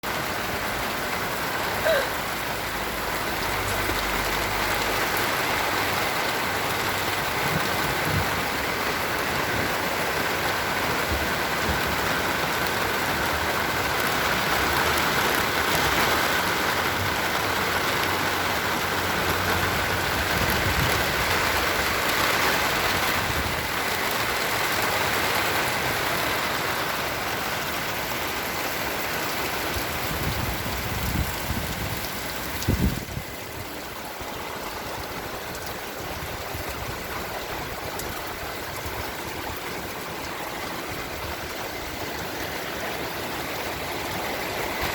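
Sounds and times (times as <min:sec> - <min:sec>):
rain falling on plants: 0:00.0 - 0:44.9.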